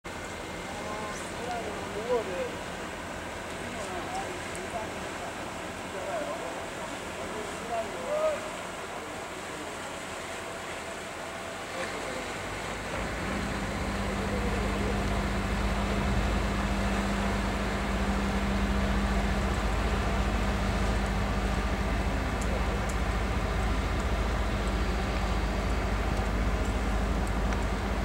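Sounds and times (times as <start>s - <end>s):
engine droning: 0.0s - 28.0s.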